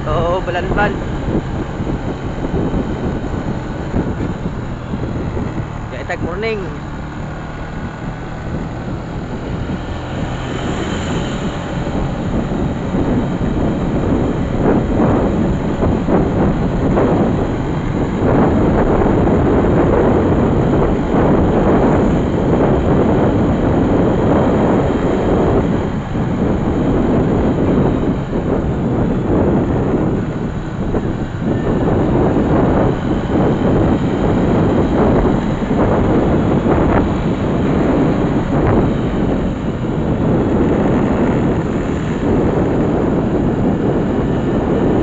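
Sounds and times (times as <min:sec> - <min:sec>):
vehicle engine and road noise: 0:00.0 - 0:45.0.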